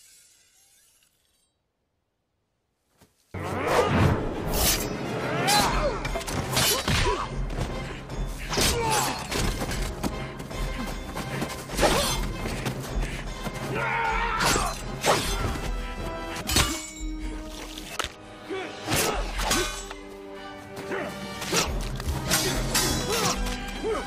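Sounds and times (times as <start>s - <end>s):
dramatic music score: 3.4s - 24.0s.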